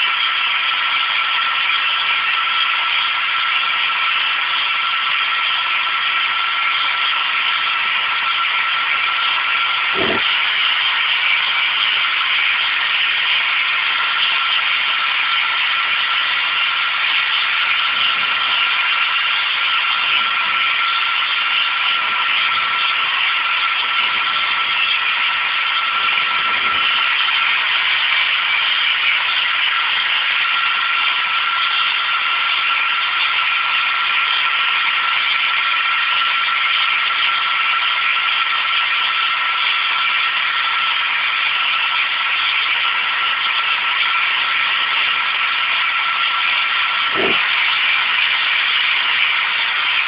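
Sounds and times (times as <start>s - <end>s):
faint drive whine: 0.0s - 37.9s, 38.8s - 50.0s
lathe cutting metal hiss: 0.0s - 50.0s.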